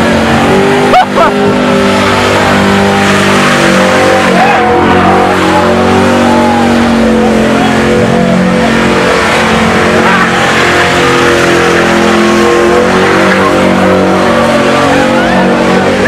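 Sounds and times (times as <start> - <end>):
car engine revving high: 0.0 - 16.0
tires squealing on pavement: 0.0 - 16.0.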